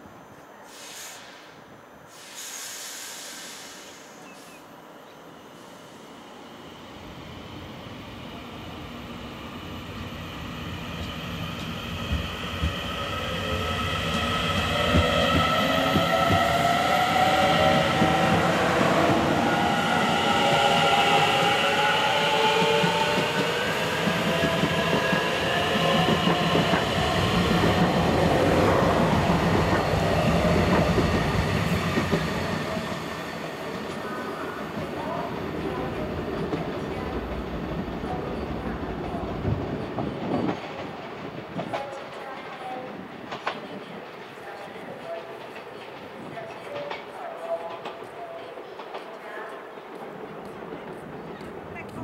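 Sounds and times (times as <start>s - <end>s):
train wheels rumbling on rails: 6.7s - 52.0s.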